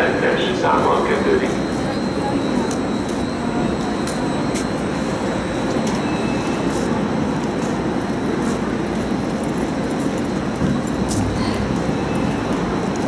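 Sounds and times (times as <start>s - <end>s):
train shed rumble: 0.0s - 13.0s.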